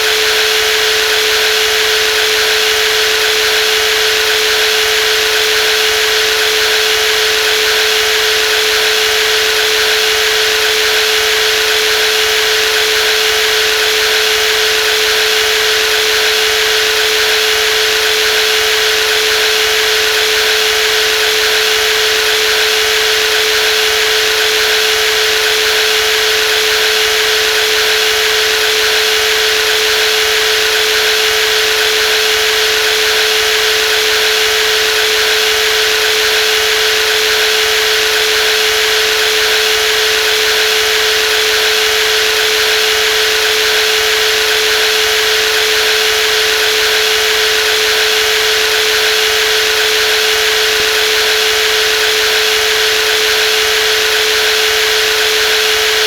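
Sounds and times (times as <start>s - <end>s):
jigsaw motor humming: 0.0s - 56.0s.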